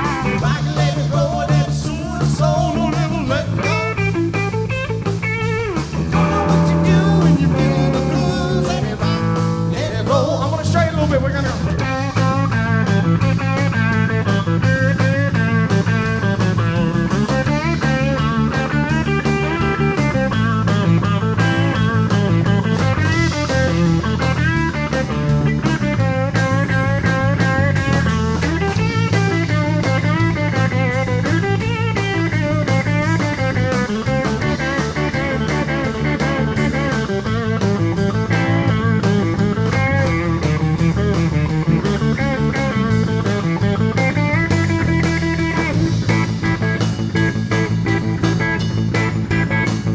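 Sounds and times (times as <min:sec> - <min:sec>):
drum kit: 0:00.0 - 0:49.9
electric bass: 0:00.0 - 0:49.9
electric guitar lead: 0:00.0 - 0:49.9.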